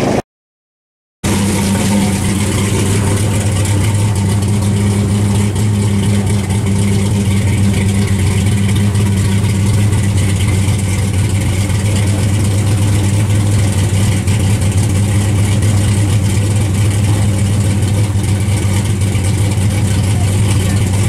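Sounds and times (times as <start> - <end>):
car engine idling: 1.2 - 21.0.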